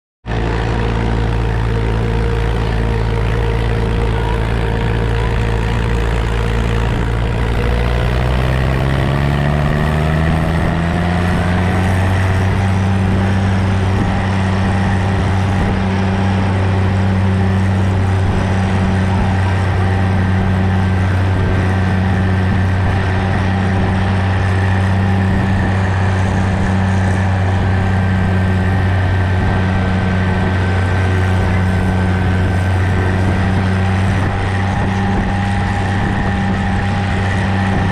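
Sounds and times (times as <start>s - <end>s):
tractor engine running: 0.2s - 37.9s.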